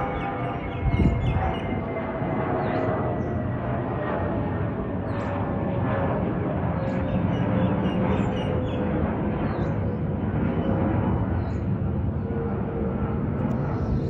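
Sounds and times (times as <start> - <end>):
jet engine whine: 0.0 - 14.0
jet engines rumbling: 0.0 - 14.0.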